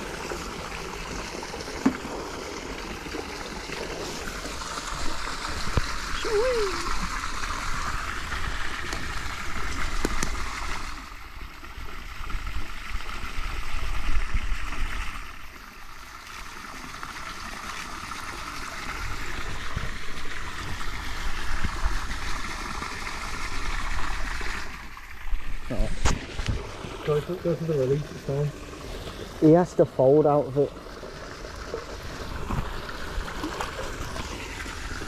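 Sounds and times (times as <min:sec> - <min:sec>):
water trickling and gurgling: 0:00.0 - 0:35.0.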